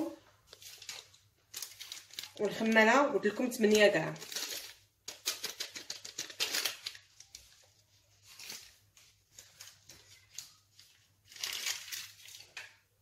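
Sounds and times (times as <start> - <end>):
paper sachet crinkling: 0.0 - 12.7.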